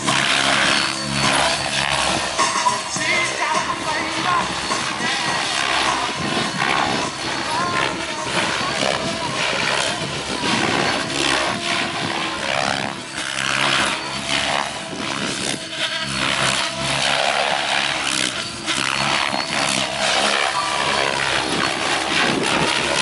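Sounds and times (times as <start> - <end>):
model helicopter rotor whooshing: 0.0 - 23.0.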